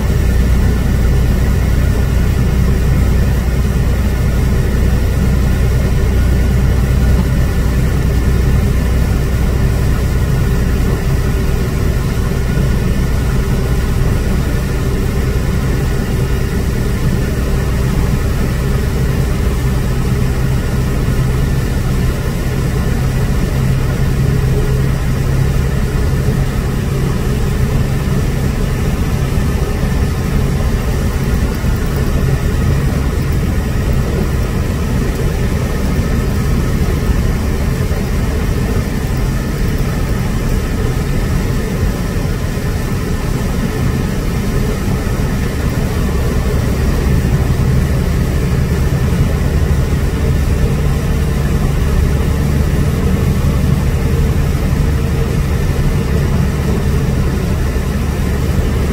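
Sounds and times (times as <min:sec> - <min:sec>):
truck engine and road drone: 0:00.0 - 0:58.9.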